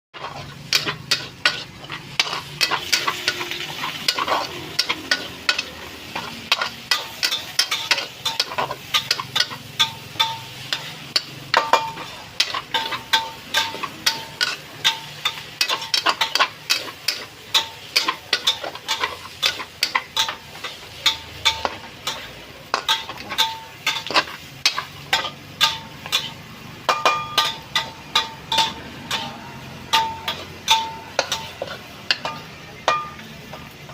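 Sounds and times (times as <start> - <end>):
spatula scraping metal pan: 0.1 - 33.9
steady sizzle: 0.1 - 33.9.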